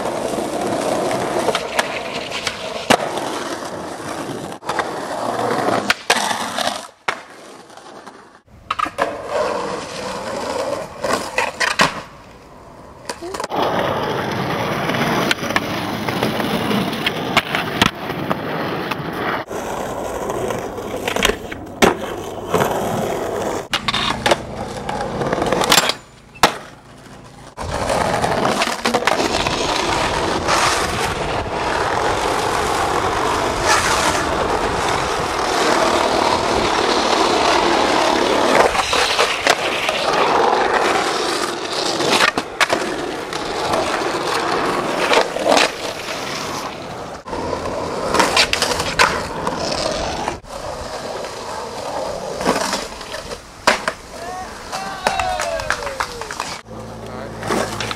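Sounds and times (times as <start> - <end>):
board sliding on concrete ledge: 0.0 - 57.9
skateboard clacks and scrapes: 0.0 - 57.9
skateboard wheels rolling on pavement: 0.0 - 57.9.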